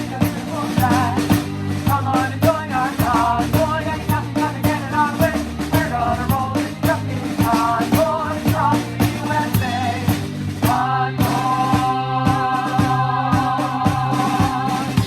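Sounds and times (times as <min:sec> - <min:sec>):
drum kit beat: 0:00.0 - 0:15.0
rock band playing: 0:00.0 - 0:15.0.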